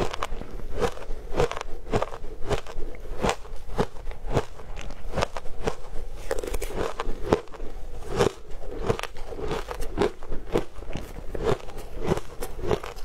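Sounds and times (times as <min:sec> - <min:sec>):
ice crunching between teeth: 0:00.0 - 0:13.0.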